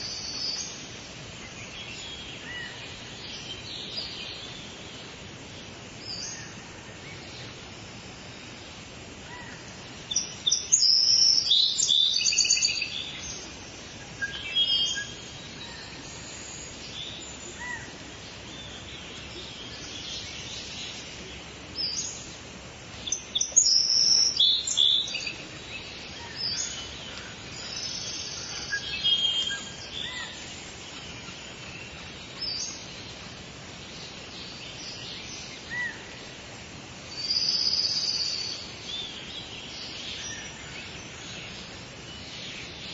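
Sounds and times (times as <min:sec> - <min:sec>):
outdoor background hiss: 0:00.0 - 0:42.9
songbirds chirping: 0:00.0 - 0:42.9.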